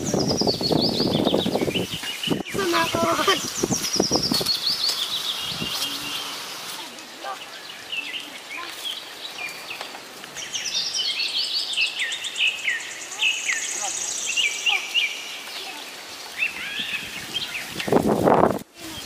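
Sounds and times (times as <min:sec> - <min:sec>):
birds chirping: 0:00.0 - 0:18.1.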